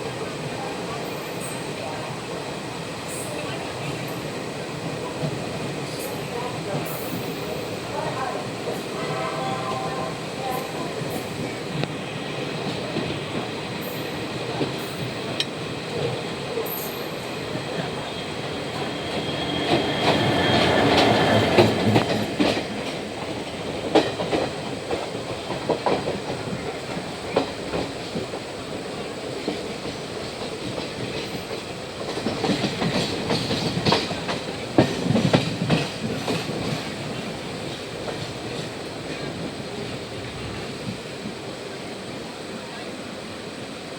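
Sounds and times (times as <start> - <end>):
train wheels clicking on rails: 0.0 - 41.7
train rumble: 0.0 - 43.9.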